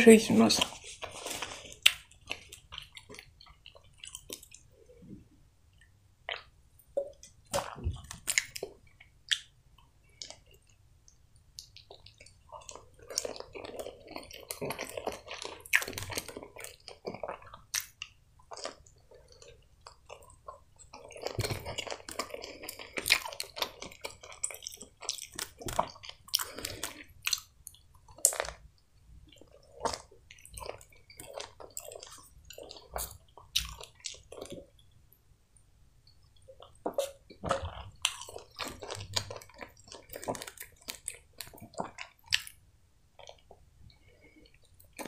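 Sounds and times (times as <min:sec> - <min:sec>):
person chewing food: 0:00.5 - 0:45.0.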